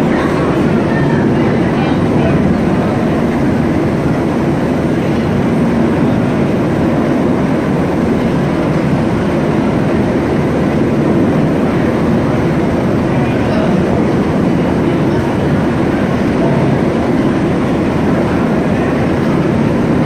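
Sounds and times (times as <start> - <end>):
helicopter rotor and engine noise: 0.0 - 20.0.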